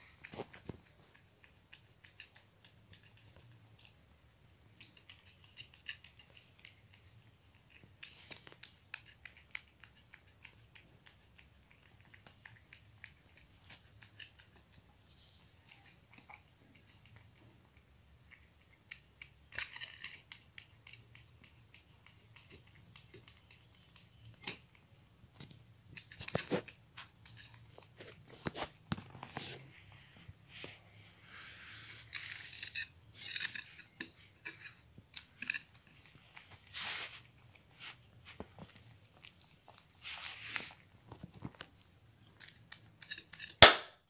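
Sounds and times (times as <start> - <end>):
cats chewing and licking: 0.0 - 43.7.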